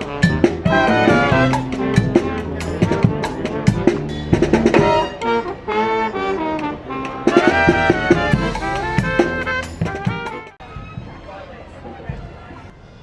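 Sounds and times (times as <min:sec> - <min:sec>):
upbeat brass instrumental music: 0:00.0 - 0:11.3.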